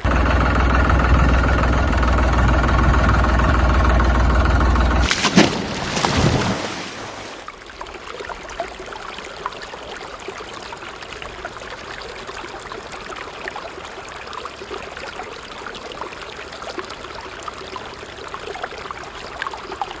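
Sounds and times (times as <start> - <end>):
river water babbling: 0.0 - 20.0.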